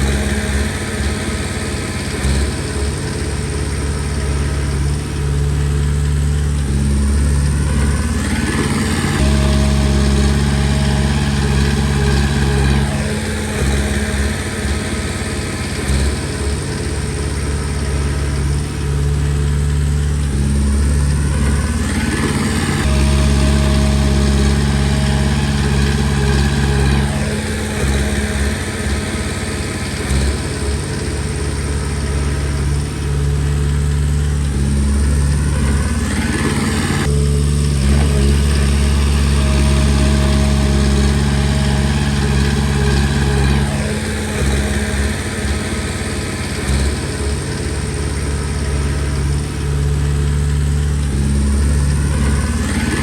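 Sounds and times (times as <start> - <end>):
bulldozer diesel engine: 0.0 - 53.0.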